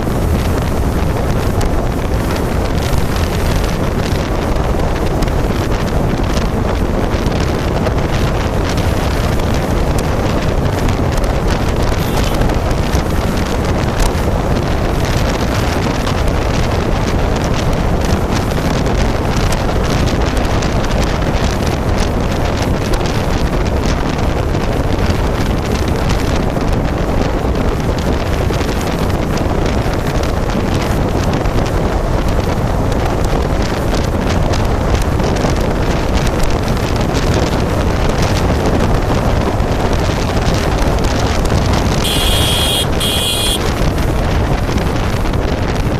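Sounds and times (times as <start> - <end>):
road noise: 0.0 - 45.9
wind rush on microphone: 0.0 - 45.9.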